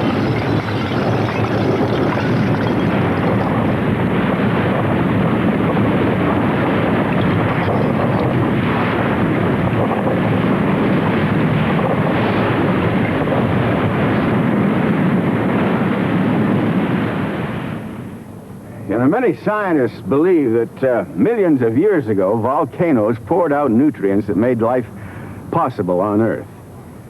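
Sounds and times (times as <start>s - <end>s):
volcano rushing rumble: 0.0s - 27.0s.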